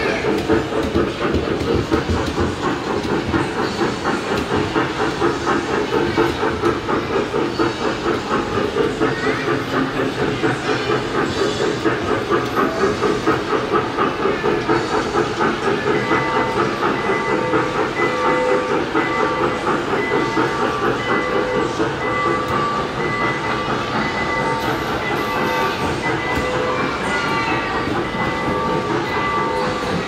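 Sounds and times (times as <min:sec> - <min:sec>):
recorded steam locomotive chugging: 0:00.0 - 0:30.0.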